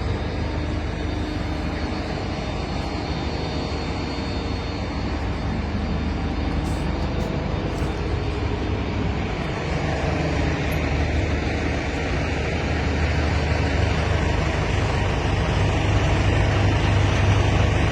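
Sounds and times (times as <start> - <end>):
diesel truck engine running: 0.0 - 17.9.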